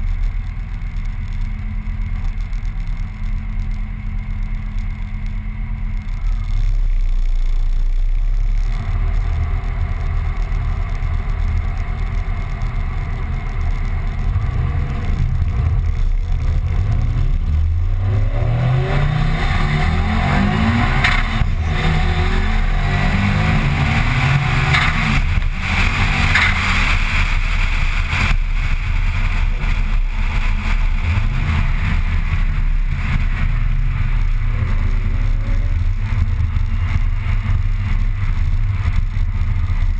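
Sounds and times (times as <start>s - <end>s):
car engine accelerating: 0.0s - 39.9s
tyre and wind noise: 0.0s - 39.9s.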